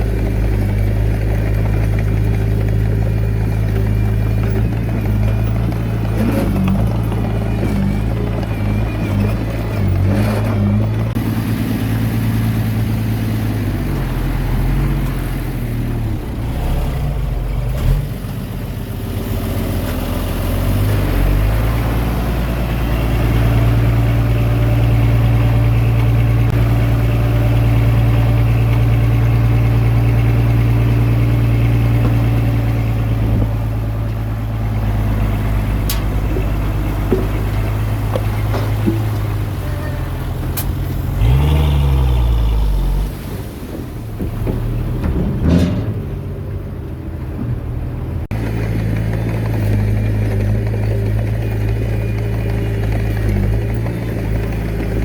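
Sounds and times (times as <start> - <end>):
heavy machinery diesel engine running: 0.0 - 55.0.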